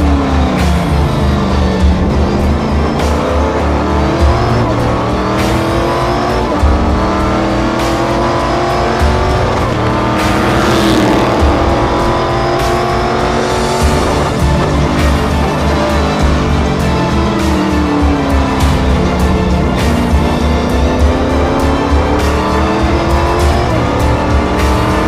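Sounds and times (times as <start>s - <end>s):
background music: 0.0s - 25.0s
race car engine accelerating: 0.0s - 25.0s.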